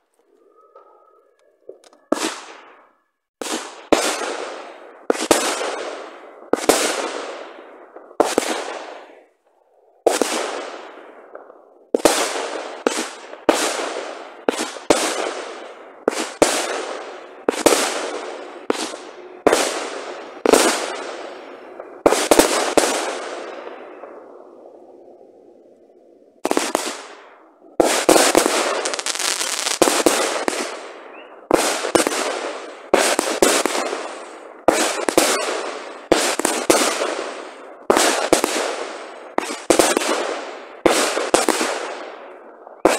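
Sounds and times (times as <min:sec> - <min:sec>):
fireworks bangs: 0:01.7 - 0:09.3, 0:10.0 - 0:24.3, 0:26.4 - 0:42.9.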